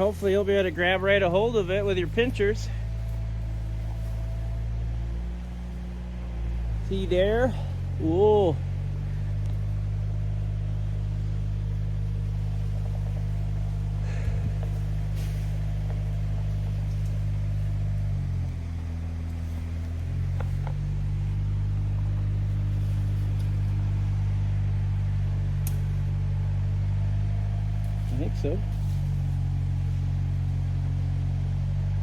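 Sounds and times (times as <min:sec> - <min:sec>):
loader engine running: 0:00.0 - 0:32.0.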